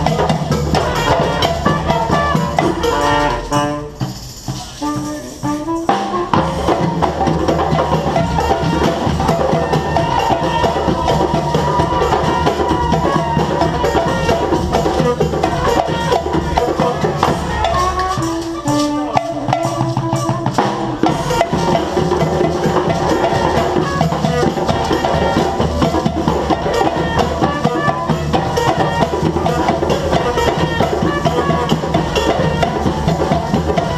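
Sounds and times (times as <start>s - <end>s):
drums and percussion beat: 0.0s - 33.9s
street band playing: 0.0s - 33.9s.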